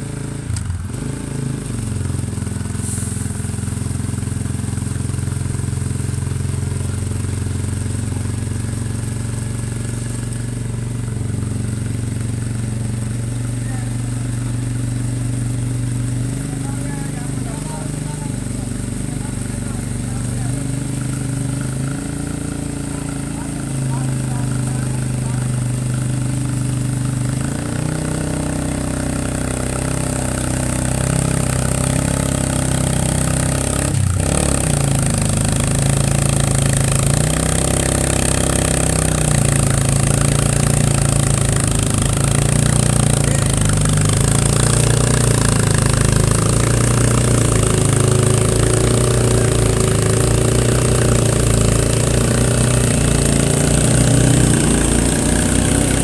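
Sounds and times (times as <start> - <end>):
motorcycle engine running under load: 0.0 - 56.0.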